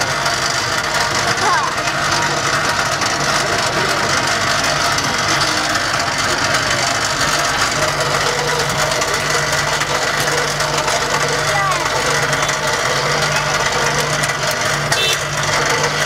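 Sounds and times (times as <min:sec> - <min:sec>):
corn popping crackle: 0:00.0 - 0:16.0
popcorn machine hum: 0:00.0 - 0:16.0.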